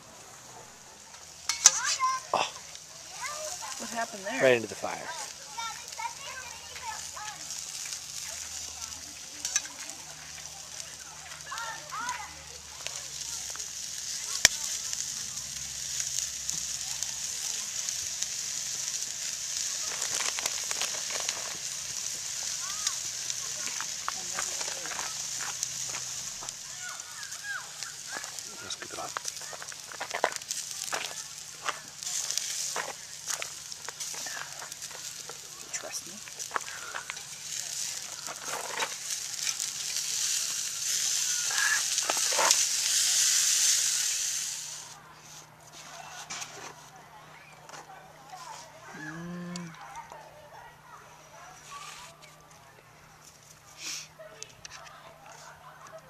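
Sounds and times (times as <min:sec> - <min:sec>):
steak sizzling on a grill: 0:00.0 - 0:52.6, 0:53.2 - 0:56.0
crackles and pops: 0:00.1 - 0:45.0.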